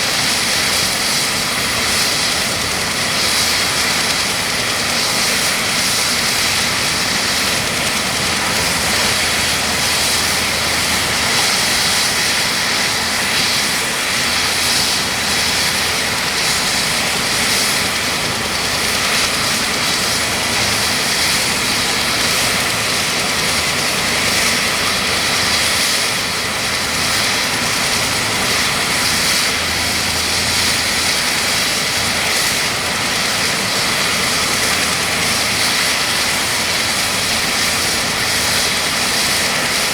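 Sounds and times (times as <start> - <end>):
helicopter turbines whining: 0.0 - 39.9.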